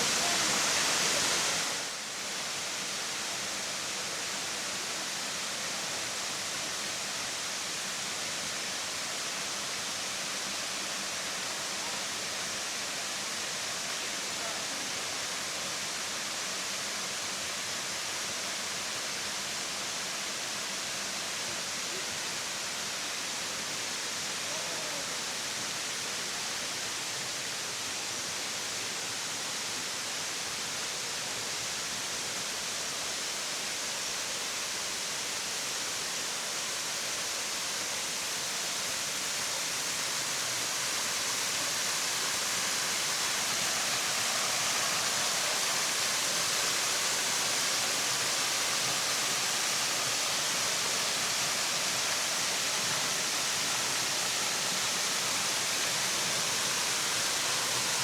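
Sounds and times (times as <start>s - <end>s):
waterfall cascading: 0.0s - 58.0s.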